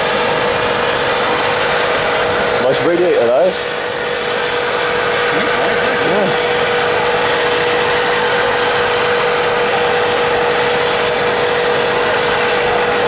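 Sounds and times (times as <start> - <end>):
machine droning tone: 0.0 - 13.0.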